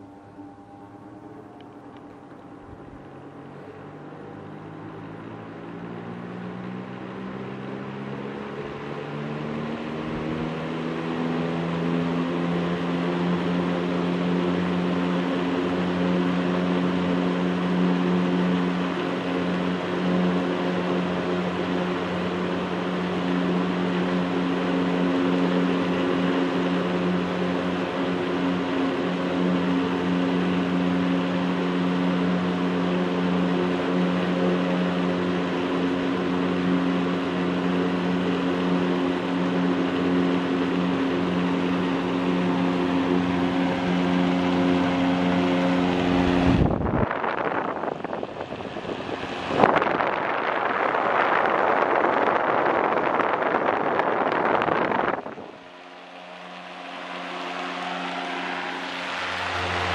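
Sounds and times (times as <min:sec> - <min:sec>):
exhaust fan humming: 0:00.0 - 0:59.9.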